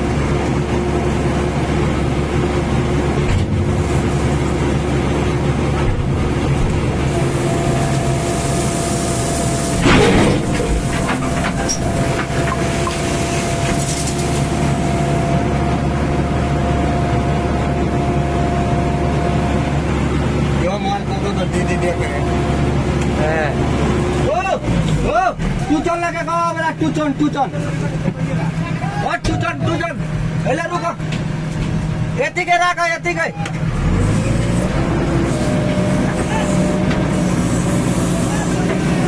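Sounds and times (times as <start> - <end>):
heavy vehicle engine humming: 0.0 - 39.0.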